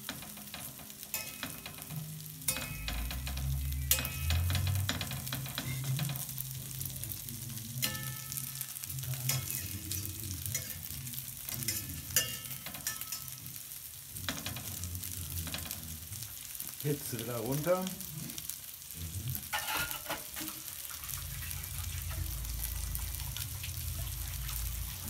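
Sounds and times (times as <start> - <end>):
metal spatula scraping pan: 0.0 - 15.8, 19.3 - 25.0
meat patties sizzling in fat: 0.0 - 25.0.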